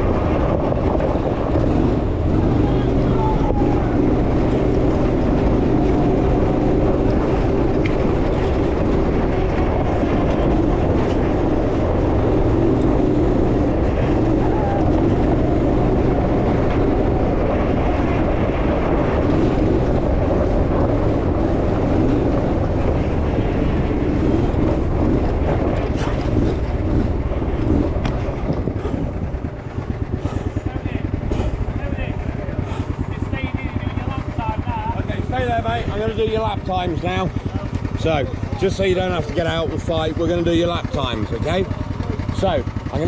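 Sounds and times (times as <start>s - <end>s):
buggy engine running: 0.0s - 43.0s.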